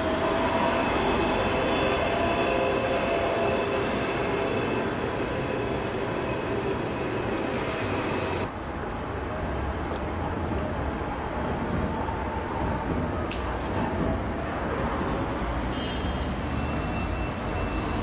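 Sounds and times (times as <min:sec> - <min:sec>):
electric tram rumbling on track: 0:00.0 - 0:18.0.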